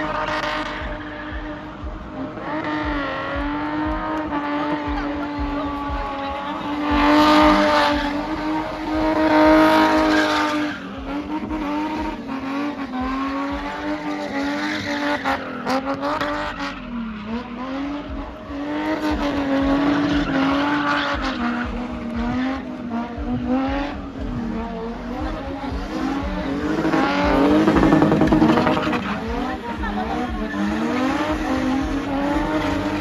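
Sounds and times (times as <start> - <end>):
car engines revving high: 0.0 - 33.0.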